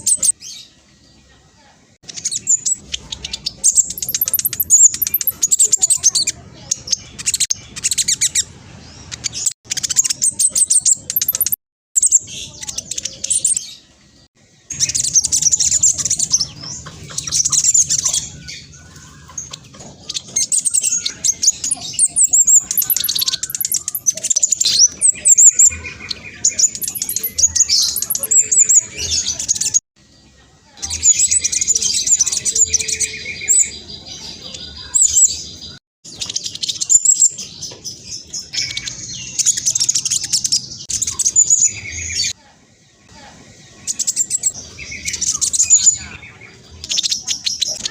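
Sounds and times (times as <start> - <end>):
bird twittering and trilling: 0.0 - 47.9.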